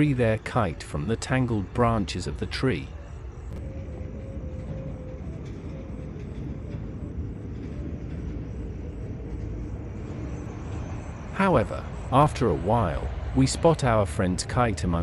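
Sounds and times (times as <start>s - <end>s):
low rumble of night ambience: 0.0s - 15.0s.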